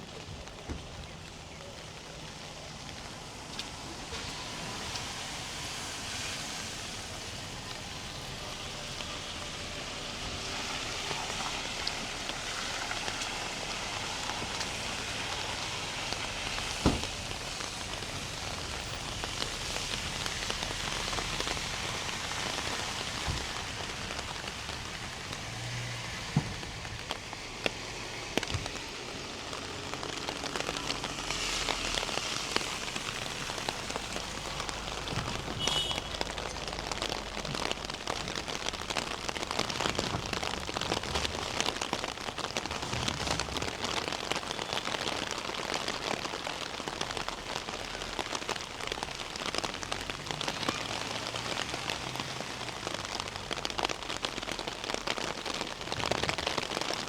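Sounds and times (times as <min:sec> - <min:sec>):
rain splashing on ground: 0:00.0 - 0:57.0.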